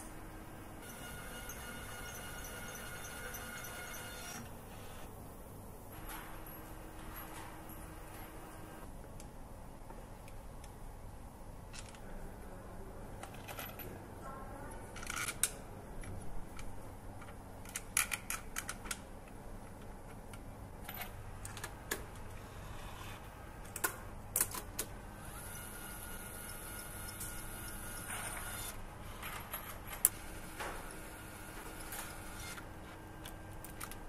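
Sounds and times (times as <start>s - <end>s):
machinery hum: 0.0s - 17.7s, 19.1s - 34.0s.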